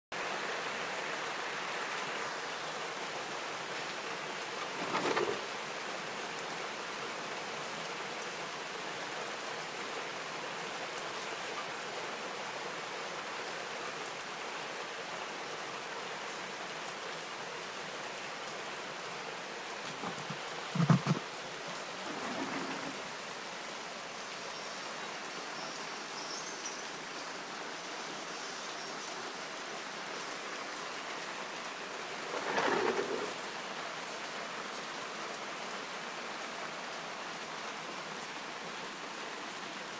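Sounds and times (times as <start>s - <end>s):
heavy rain on wooden deck: 0.1s - 39.9s.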